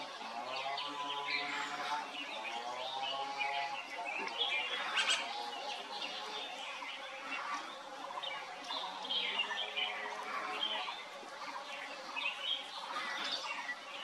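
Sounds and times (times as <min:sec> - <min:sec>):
birds chirping and twittering: 0:00.0 - 0:14.0.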